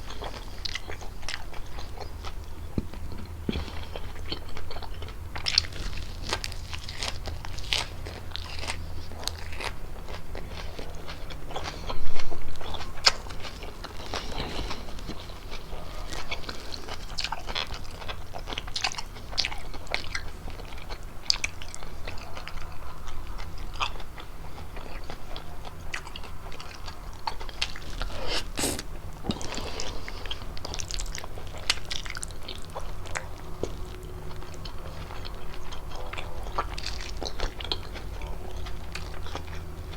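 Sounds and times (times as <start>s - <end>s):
chewing and biting: 0.0s - 39.9s.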